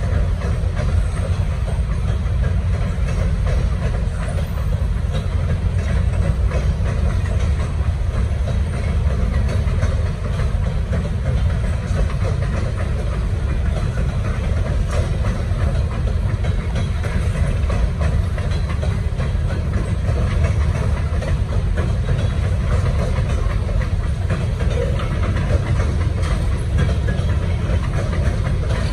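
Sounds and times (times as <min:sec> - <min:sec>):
railroad cars rumbling over bridge: 0:00.0 - 0:28.9
wheel clicks and rattles: 0:00.0 - 0:28.9.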